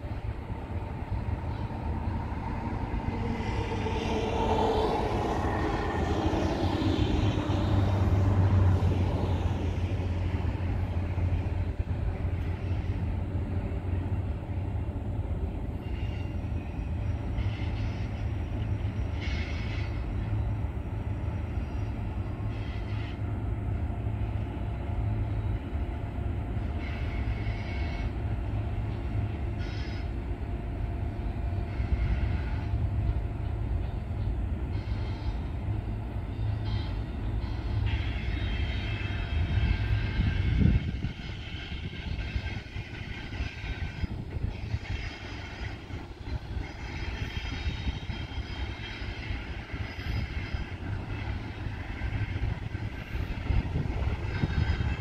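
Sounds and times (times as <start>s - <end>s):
freight train cars rumbling: 0.0s - 55.0s
train cars rattling: 0.0s - 55.0s.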